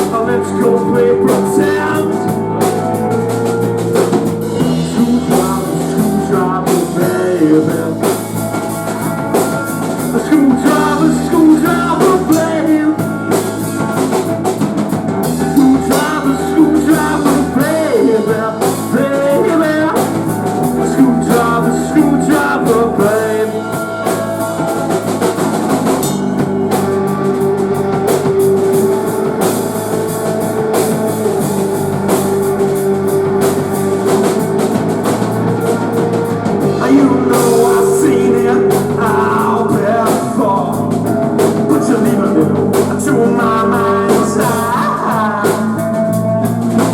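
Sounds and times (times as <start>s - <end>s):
bass guitar: 0.0s - 46.9s
drum kit: 0.0s - 46.9s
electric guitar: 0.0s - 46.9s.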